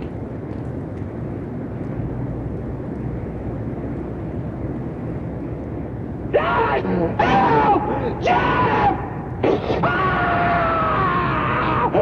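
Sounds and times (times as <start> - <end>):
dark ambient low rumble: 0.0 - 12.0.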